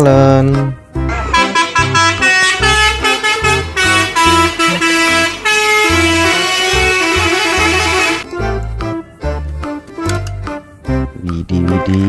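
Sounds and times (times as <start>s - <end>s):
background music with bass beat: 0.1s - 12.0s.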